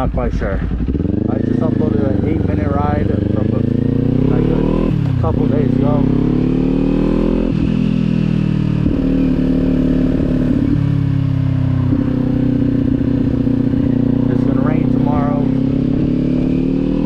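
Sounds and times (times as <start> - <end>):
motorcycle engine shifting gears: 0.0 - 17.0.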